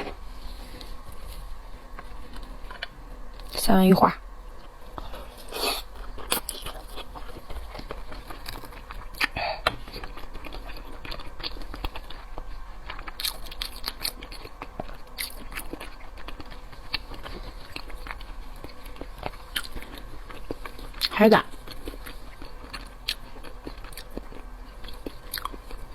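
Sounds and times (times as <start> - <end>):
wet chewing: 4.6 - 25.9.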